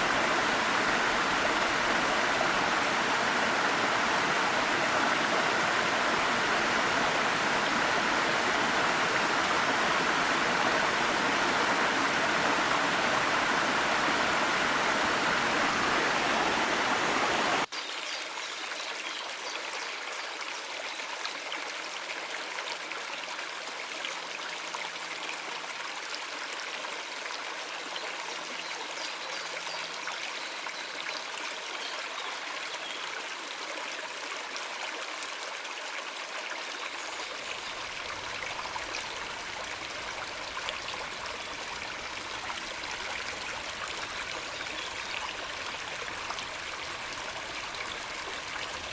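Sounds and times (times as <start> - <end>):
mountain stream running: 0.0 - 48.9.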